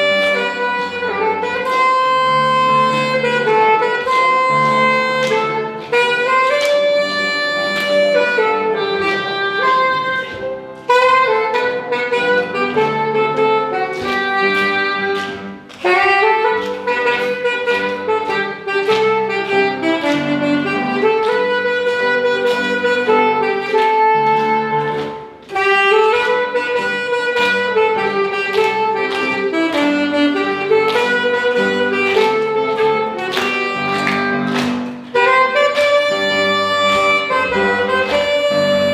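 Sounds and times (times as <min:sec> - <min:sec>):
saxophone-like lead melody: 0:00.0 - 0:38.9.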